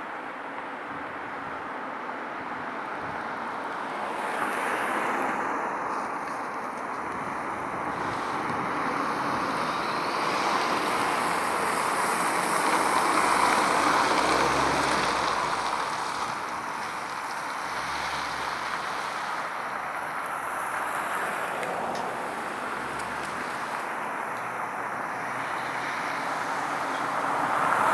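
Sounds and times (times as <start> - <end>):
vehicle passing on road: 2.6 - 27.9.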